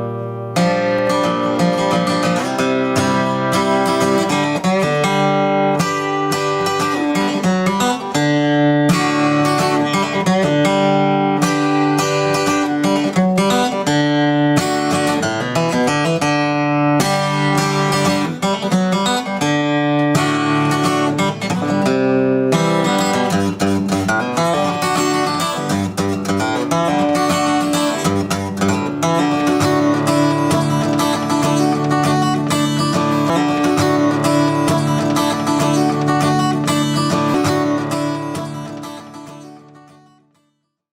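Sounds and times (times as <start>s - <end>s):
acoustic guitar music: 0.0s - 40.8s.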